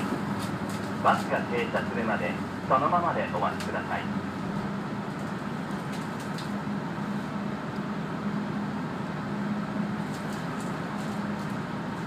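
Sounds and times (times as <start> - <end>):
bus engine hum: 0.0 - 12.0.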